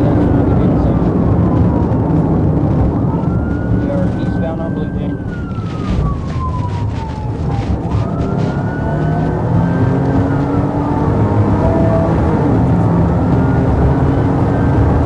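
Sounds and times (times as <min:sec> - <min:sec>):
car engine hum: 0:00.0 - 0:15.0
police siren wailing: 0:00.0 - 0:15.0
road noise: 0:00.0 - 0:15.0.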